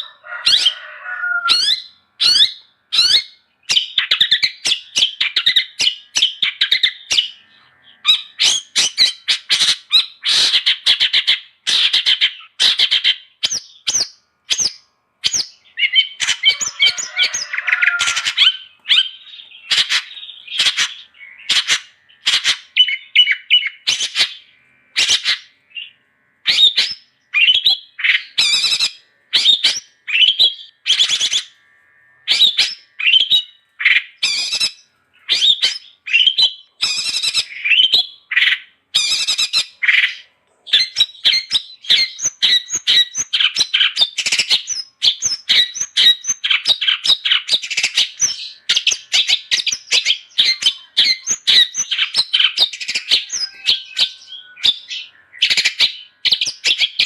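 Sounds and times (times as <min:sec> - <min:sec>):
shrike singing harsh chatter: 0:00.0 - 0:57.0.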